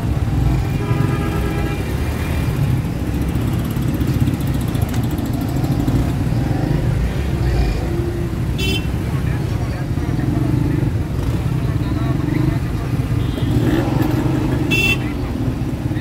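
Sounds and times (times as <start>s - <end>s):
road vehicle engine and road noise: 0.0s - 16.0s.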